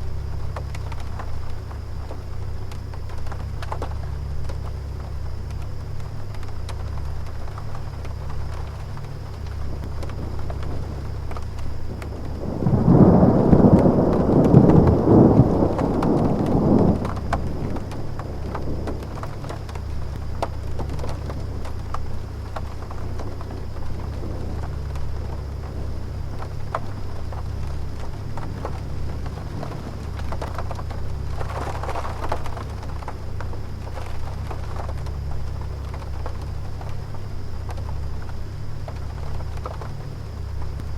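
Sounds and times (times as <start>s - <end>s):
air conditioner humming: 0.0s - 40.9s
rain pattering: 0.0s - 40.9s
thunder rumbling: 0.0s - 40.9s.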